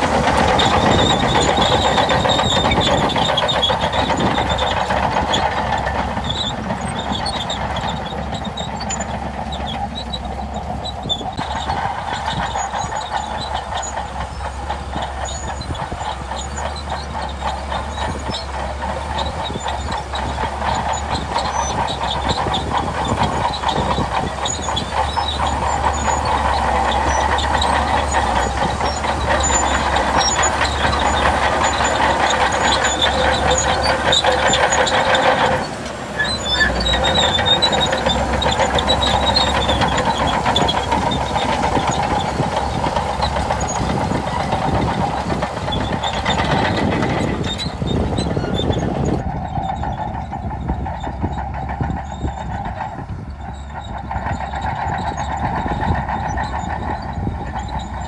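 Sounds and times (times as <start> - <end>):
bulldozer diesel engine: 0.0 - 58.0
steel tracks clanking: 0.0 - 58.0.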